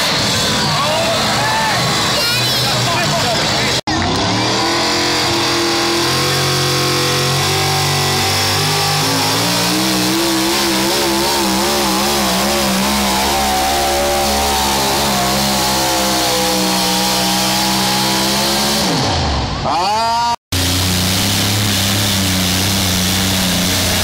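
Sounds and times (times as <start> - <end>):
engine running at high revs: 0.0 - 24.0.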